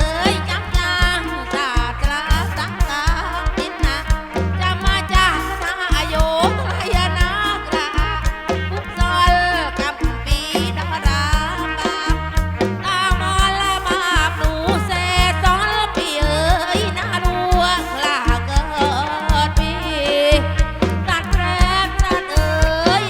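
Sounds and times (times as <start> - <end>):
band music over pa system: 0.0 - 23.0
drum beat with heavy bass: 0.0 - 23.0.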